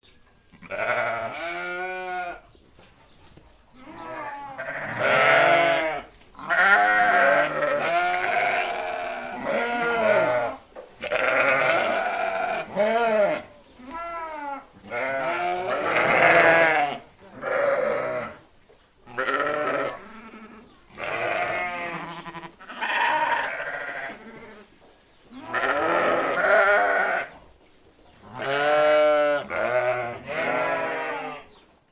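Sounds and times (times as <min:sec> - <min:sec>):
sheep bleating: 0:00.5 - 0:02.4, 0:03.8 - 0:18.4, 0:19.1 - 0:24.6, 0:25.3 - 0:27.3, 0:28.3 - 0:31.6.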